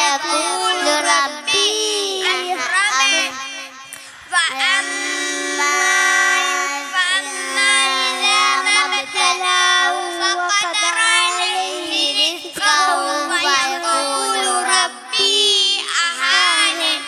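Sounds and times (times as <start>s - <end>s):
boys singing into microphones: 0.0s - 17.0s.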